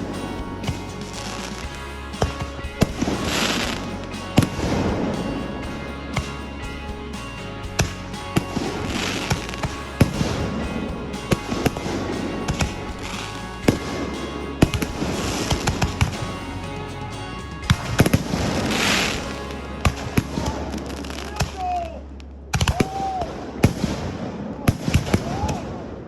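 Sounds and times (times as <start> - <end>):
fireworks banging: 0.0 - 21.8
fireworks crackling: 0.0 - 21.9.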